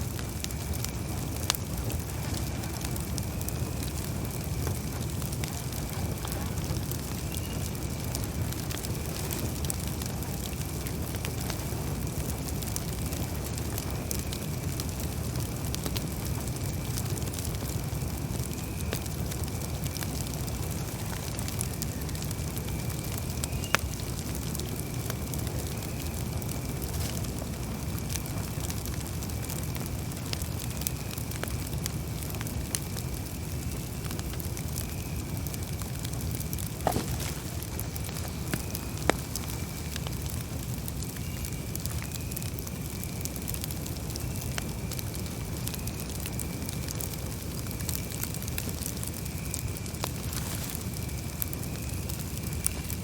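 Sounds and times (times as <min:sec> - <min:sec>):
campfire crackling: 0:00.0 - 0:53.0
low rumble of burning fire: 0:00.0 - 0:53.0.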